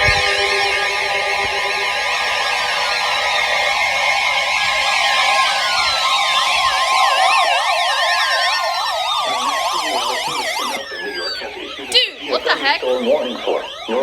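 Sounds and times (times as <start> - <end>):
wailing sirens: 0.0 - 14.0
yelping sirens: 0.0 - 14.0.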